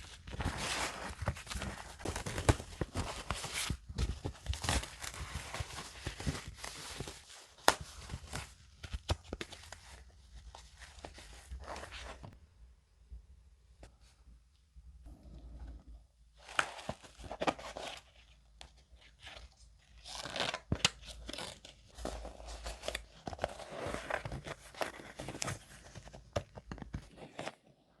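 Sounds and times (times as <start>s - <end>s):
paper crinkling and rustling: 0.0s - 12.4s, 16.4s - 27.7s.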